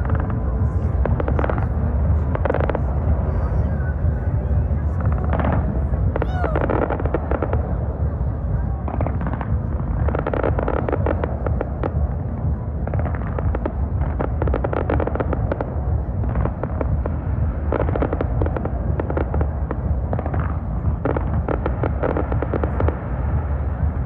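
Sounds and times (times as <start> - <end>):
fireworks popping and crackling: 0.0 - 24.0.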